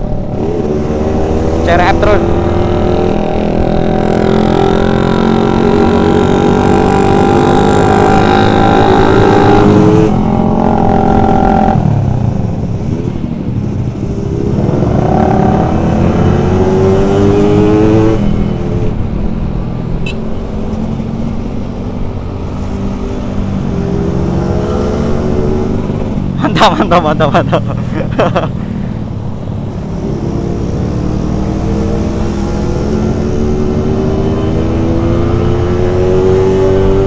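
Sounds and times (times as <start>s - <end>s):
motorcycle engine accelerating: 0.0s - 20.1s, 20.8s - 28.7s, 29.6s - 37.0s.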